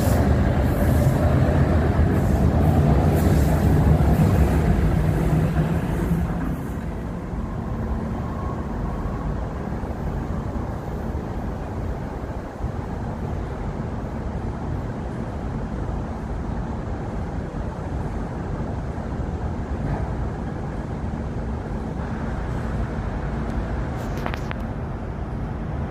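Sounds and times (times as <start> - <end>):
constant low hum: 0.0 - 25.9.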